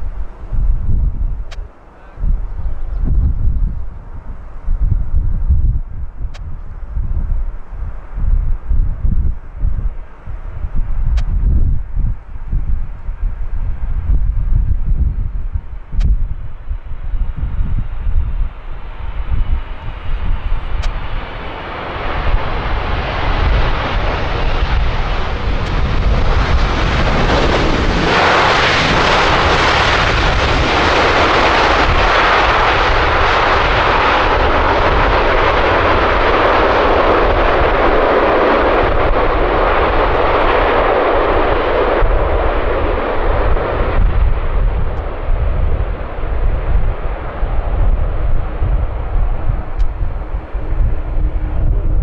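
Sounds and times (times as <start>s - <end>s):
jet airliner engine noise: 0.0s - 52.0s
low wind rumble on microphone: 0.0s - 52.0s.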